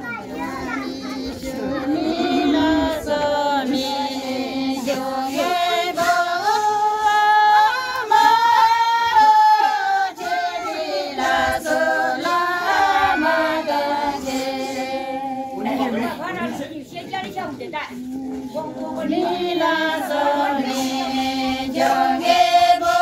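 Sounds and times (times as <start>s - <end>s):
women singing unaccompanied: 0.1s - 23.0s.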